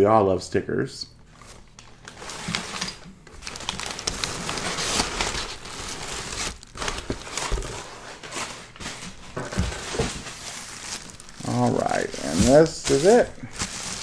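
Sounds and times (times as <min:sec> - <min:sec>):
packing paper rustling: 0:01.3 - 0:14.0
plastic wrap crinkling: 0:01.3 - 0:14.0.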